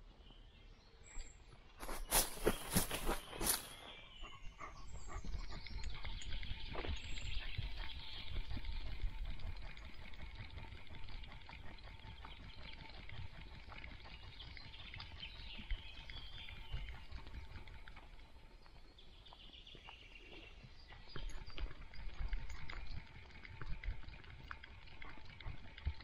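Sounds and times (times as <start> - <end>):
birds chirping faintly: 0.0 - 26.0.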